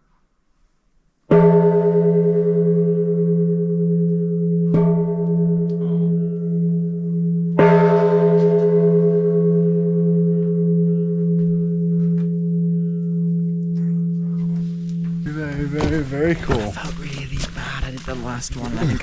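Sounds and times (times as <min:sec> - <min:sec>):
large temple bell ringing: 0:01.3 - 0:16.8.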